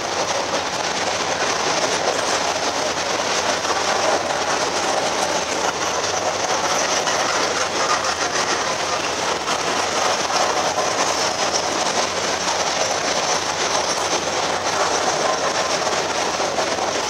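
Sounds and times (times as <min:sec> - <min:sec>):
freight train rumbling past: 0:00.0 - 0:17.0
wheels clattering on rails: 0:00.0 - 0:17.0.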